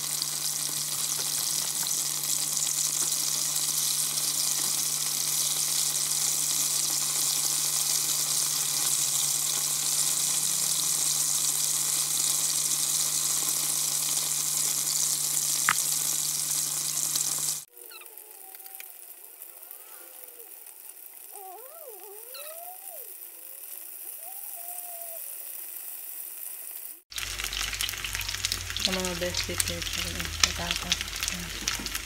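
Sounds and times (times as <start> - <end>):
chicken frying in hot oil: 0.0 - 32.0.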